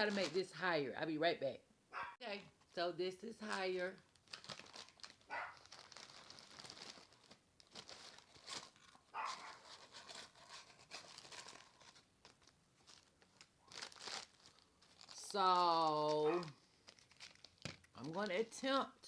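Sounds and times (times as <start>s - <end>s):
crinkling and rustling: 0.0s - 0.6s, 2.3s - 19.0s.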